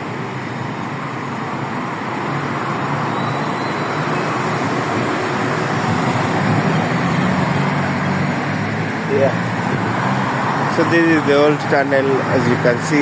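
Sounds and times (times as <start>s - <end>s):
highway traffic passing: 0.0s - 13.0s.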